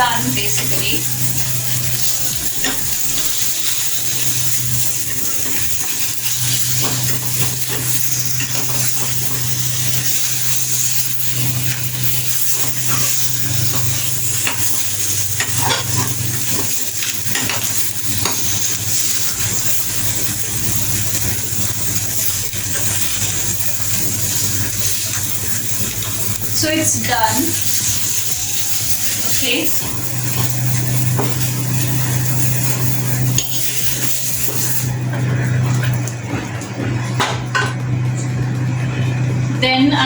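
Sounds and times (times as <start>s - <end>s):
utensil clicking and scraping: 0.0s - 36.2s
fish sizzling in hot oil: 0.0s - 40.0s.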